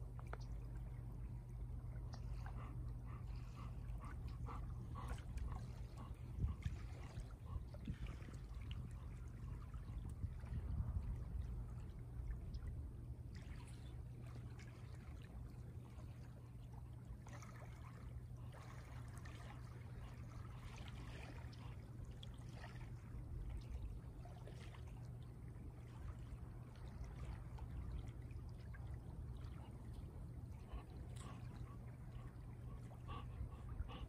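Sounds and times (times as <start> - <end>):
low steady rumble: 0.0 - 34.0
small waves lapping: 0.0 - 34.0
water trickling and splashing: 0.0 - 34.0.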